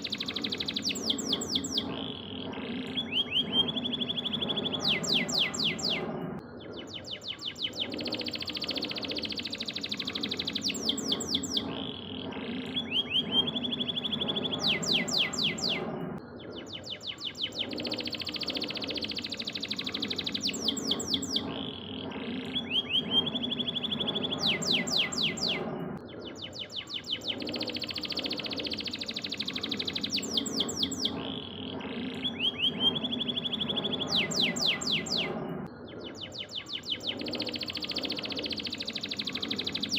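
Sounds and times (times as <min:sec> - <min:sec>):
canary singing: 0:00.0 - 0:35.4, 0:36.0 - 0:39.9
steady low background noise: 0:00.0 - 0:39.9.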